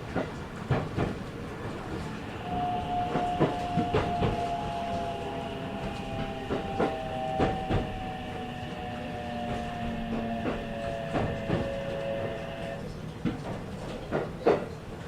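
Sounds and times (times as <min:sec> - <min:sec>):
train wheels clicking over rail joints: 0:00.0 - 0:14.8
traction motor whine: 0:00.6 - 0:12.9.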